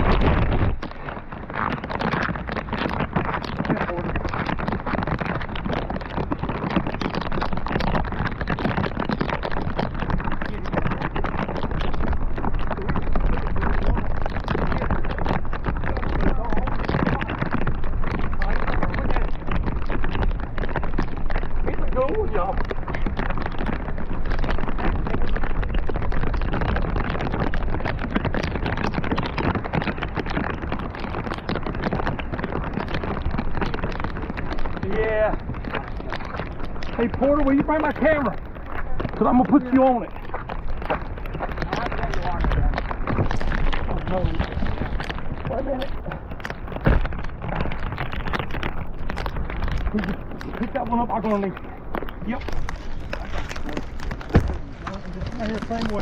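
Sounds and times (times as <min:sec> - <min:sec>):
low wind rumble: 0:00.0 - 0:56.0
rain drops pattering: 0:00.0 - 0:56.0.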